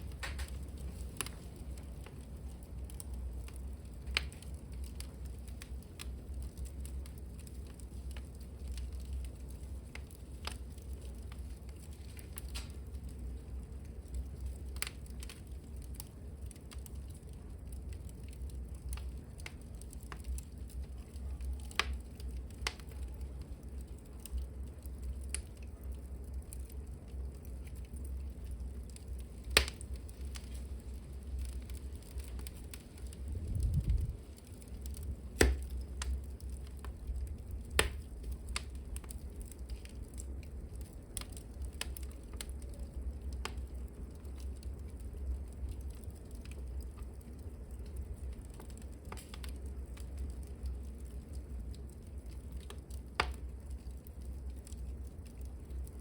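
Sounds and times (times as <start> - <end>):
burning wood crackling and popping: 0.0 - 56.0
fire flames rumbling: 0.0 - 56.0.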